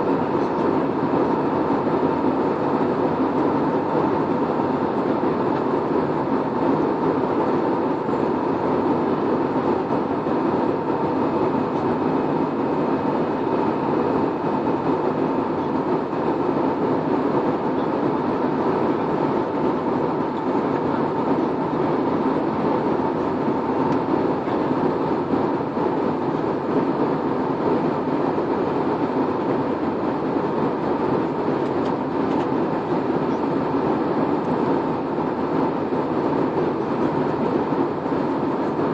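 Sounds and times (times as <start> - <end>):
airliner engine rumble: 0.0 - 38.9.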